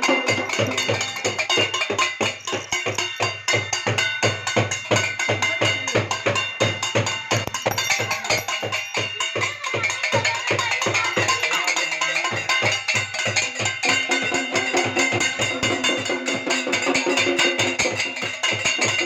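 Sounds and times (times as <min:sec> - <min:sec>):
metal plates and bells struck: 0:00.0 - 0:19.0.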